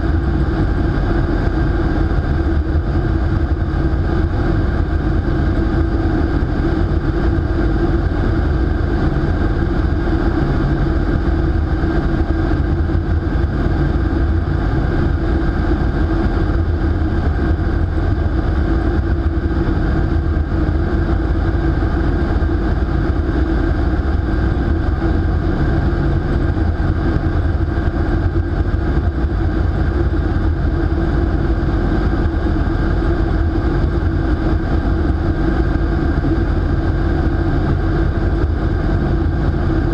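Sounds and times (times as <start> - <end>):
wind tunnel air roar: 0.0 - 39.9.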